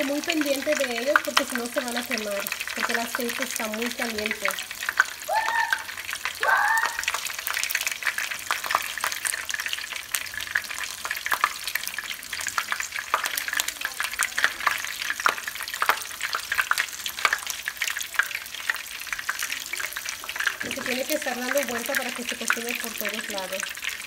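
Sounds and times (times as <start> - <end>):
food frying with crackling pops: 0.0 - 24.0.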